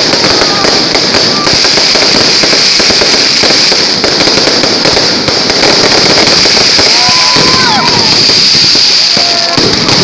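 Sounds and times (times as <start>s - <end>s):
fireworks crackling bangs: 0.0s - 10.0s.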